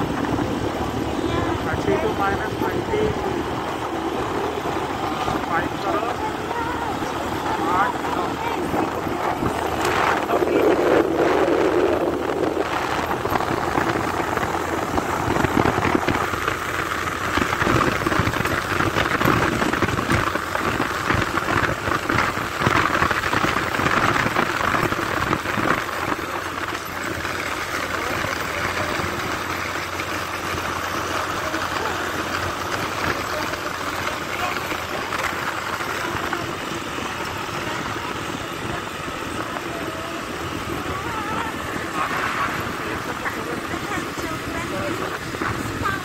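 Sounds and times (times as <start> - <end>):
vehicle driving fast on road: 0.0 - 46.0.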